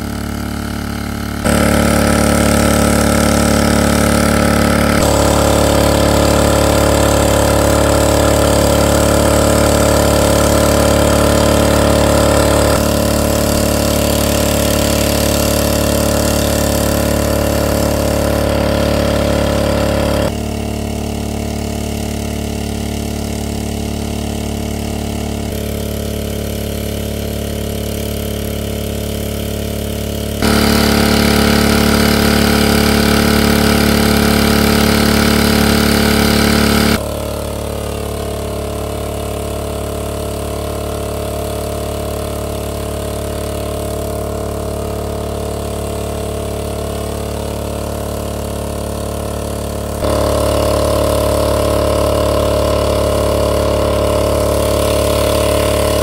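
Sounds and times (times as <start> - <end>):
engine-driven water pump running: 0.0 - 56.0.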